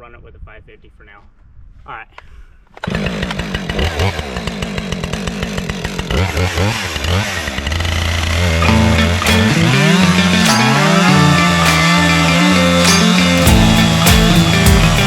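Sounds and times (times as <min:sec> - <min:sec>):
chainsaw running at high revs: 0:02.8 - 0:15.0.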